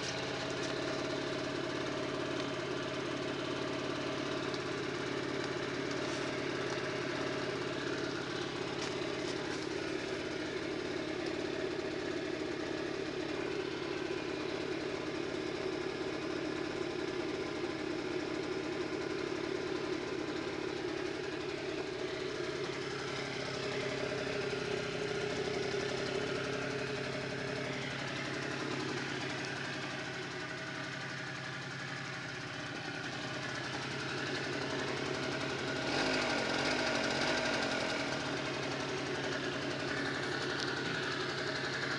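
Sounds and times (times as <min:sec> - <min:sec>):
scooter engine idling: 0:00.0 - 0:41.9.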